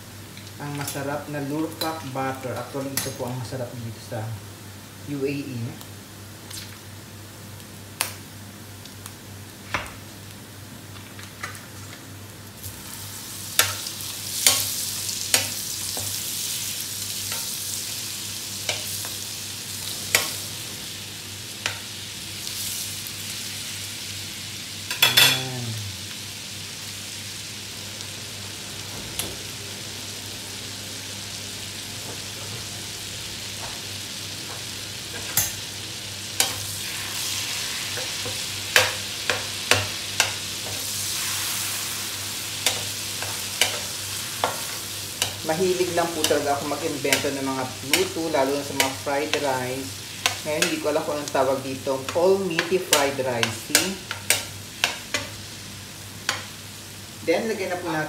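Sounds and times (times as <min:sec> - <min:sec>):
butter sizzling in wok: 0:00.0 - 0:58.0.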